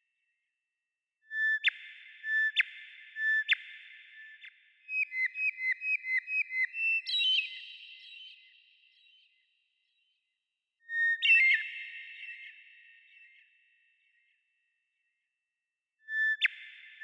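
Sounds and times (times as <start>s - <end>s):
whistled birdsong: 1.2s - 15.3s, 16.0s - 17.0s.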